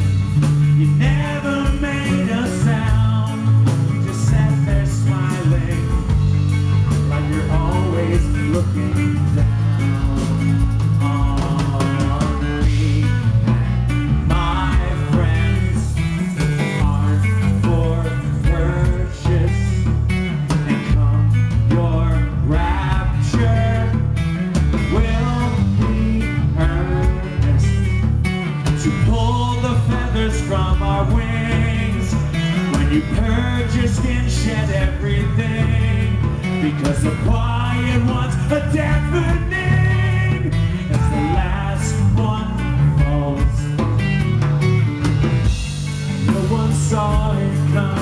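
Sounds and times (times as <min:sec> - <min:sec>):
bass guitar: 0:00.0 - 0:48.0
drum kit: 0:00.0 - 0:48.0
electric guitar: 0:00.0 - 0:48.0.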